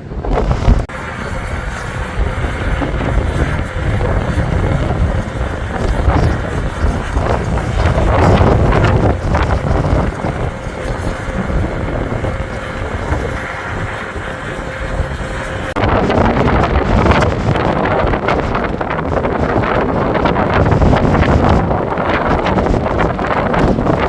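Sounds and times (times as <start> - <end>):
blizzard wind gusting on microphone: 0.0 - 24.0.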